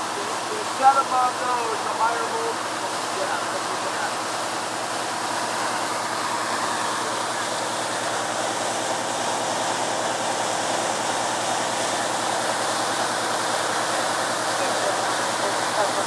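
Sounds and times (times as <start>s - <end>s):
water gushing from hydrant: 0.0s - 16.0s.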